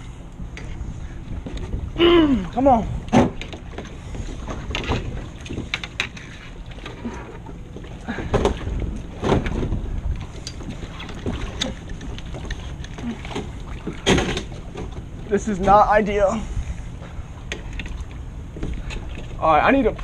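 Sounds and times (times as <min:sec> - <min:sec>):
wind rumbling on microphone: 0:00.0 - 0:20.0
knocks and clunks on kayak: 0:01.3 - 0:15.9, 0:17.4 - 0:20.0.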